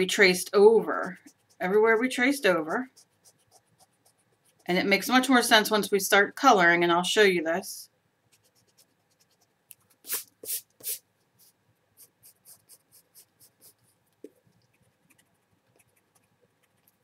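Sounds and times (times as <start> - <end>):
pencil scratching on paper: 0.0 - 5.4, 8.3 - 17.0.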